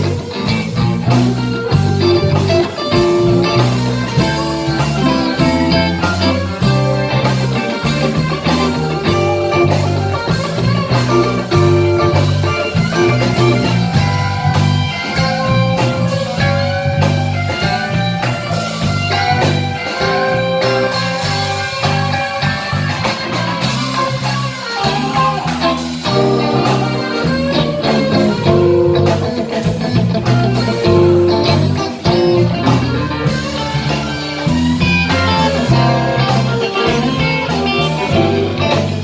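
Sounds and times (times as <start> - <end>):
bass line: 0.0 - 39.0
blues band playing: 0.0 - 39.0
guitar: 0.0 - 39.0
steady drum beat: 0.0 - 39.0.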